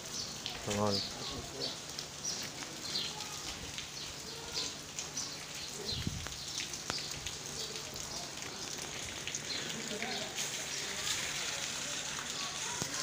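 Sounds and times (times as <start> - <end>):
rain pattering on street: 0.0 - 13.0.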